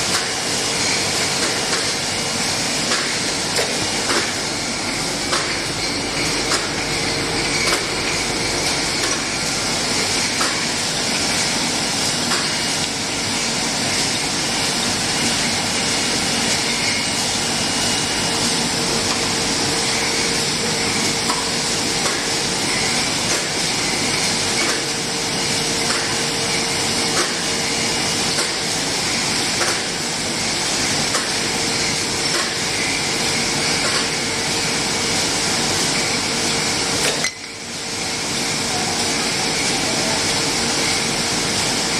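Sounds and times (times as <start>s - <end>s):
machine hum and hiss: 0.0s - 41.9s.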